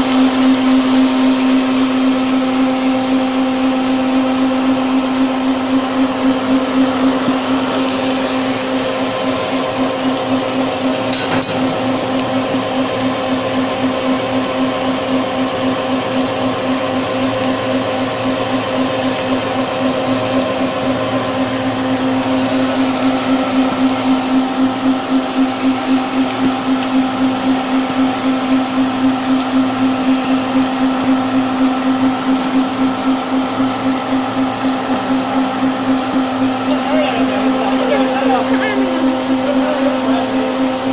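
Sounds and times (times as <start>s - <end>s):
machine humming with pulsing tone: 0.0s - 40.9s.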